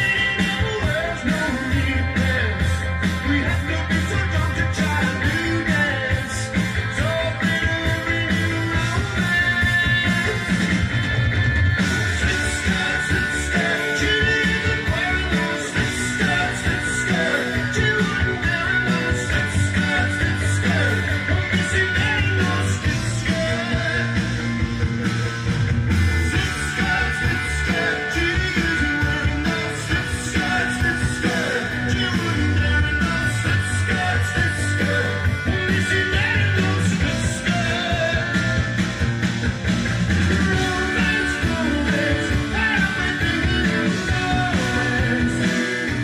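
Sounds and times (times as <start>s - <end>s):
rock music from vinyl record: 0.0s - 46.0s.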